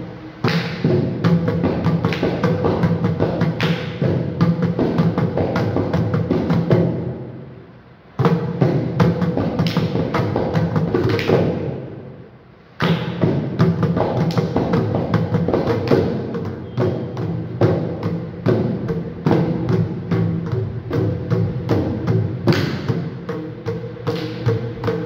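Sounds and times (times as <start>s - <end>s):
hand drums played in fast rhythms: 0.2s - 7.3s, 8.2s - 12.0s, 12.8s - 25.0s.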